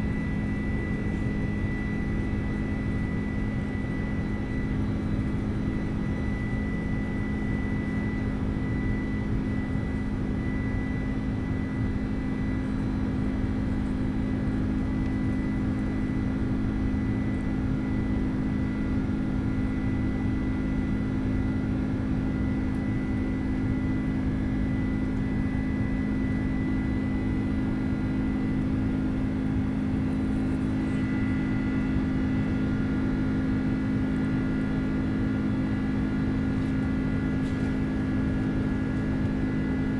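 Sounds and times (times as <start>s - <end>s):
airplane engines droning: 0.0s - 39.9s.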